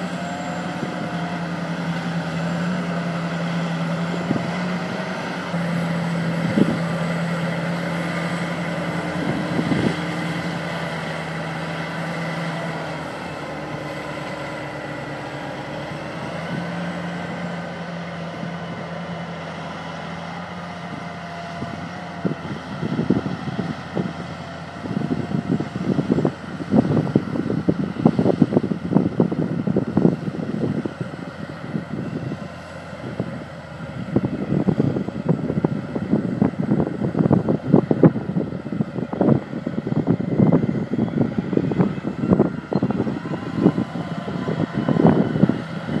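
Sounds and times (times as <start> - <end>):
diesel engine running: 0.0 - 46.0
wind buffeting microphone: 0.0 - 46.0.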